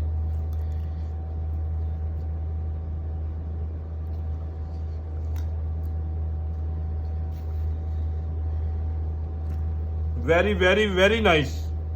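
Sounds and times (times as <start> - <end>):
faint whine: 0.0 - 11.9
low mechanical hum: 0.0 - 11.9.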